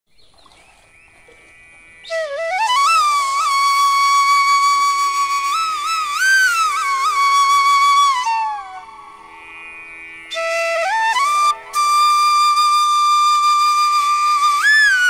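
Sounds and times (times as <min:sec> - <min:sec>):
flute melody: 0:02.0 - 0:15.0.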